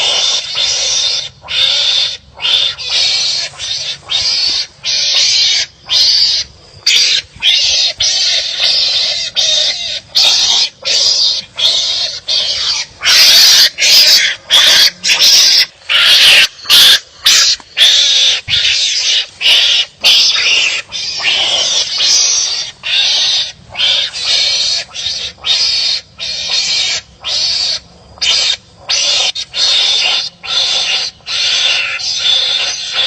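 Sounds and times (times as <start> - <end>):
wild animals barking harshly: 0.0 - 33.0.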